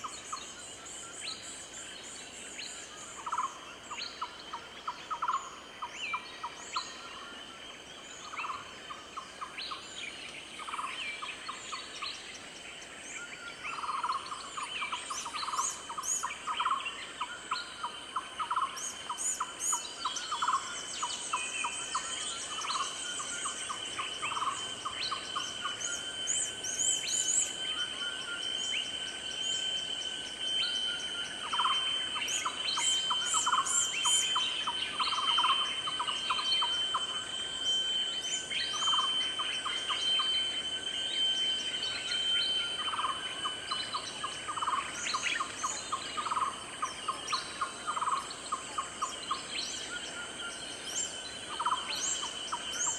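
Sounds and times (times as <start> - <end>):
high insect drones: 0.0 - 52.9.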